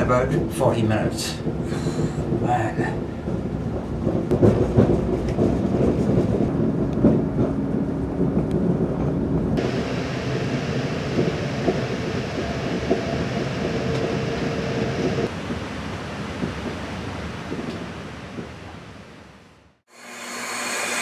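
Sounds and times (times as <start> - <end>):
train carriage rumbling: 0.0 - 19.5.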